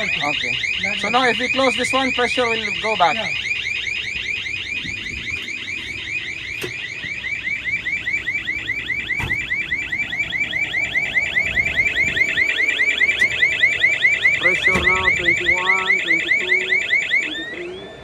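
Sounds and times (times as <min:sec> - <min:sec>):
alarm with rising chirp: 0:00.0 - 0:18.0.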